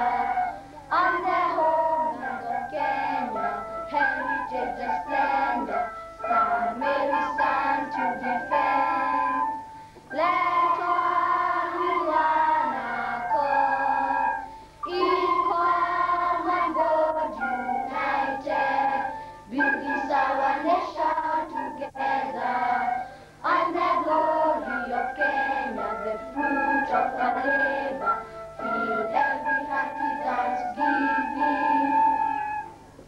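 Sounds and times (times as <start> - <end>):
children singing in unison: 0.0 - 32.7.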